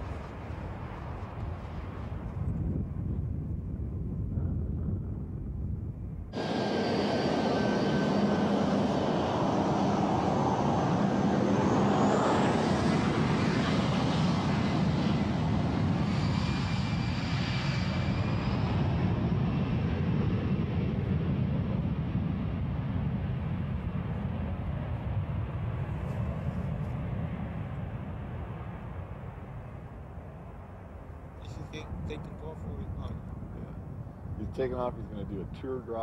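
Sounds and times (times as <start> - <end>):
jet engines roaring: 6.4 - 35.9.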